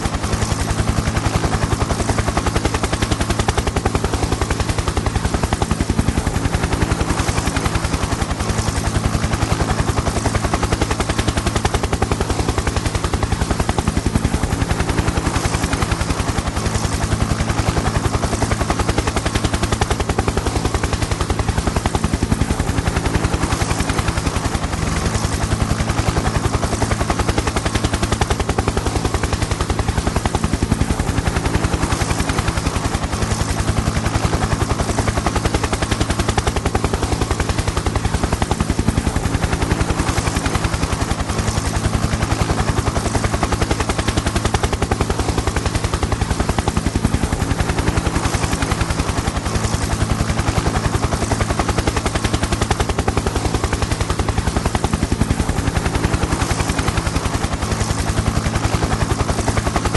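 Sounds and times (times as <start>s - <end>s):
helicopter rotor chop: 0.0s - 59.9s.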